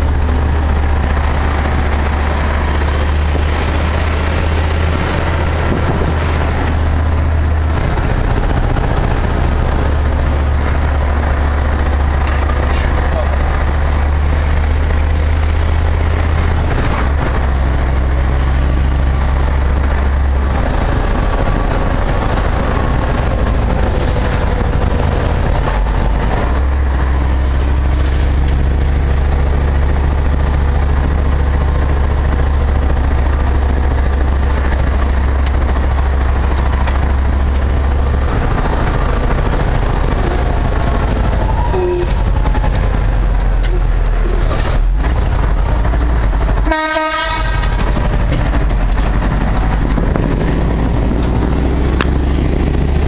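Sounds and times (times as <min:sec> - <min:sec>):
vehicle engine and road hum: 0:00.0 - 0:53.0.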